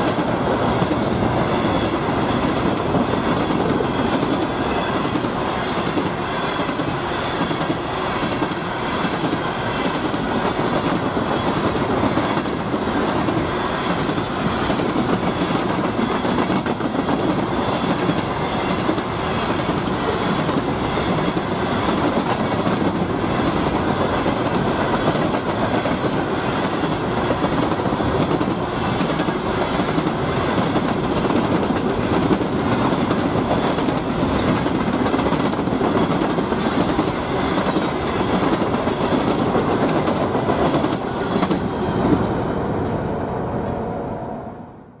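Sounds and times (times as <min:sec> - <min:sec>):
clickety-clack over rail joints: 0:00.0 - 0:43.8
freight train wheels rumbling: 0:00.0 - 0:44.8.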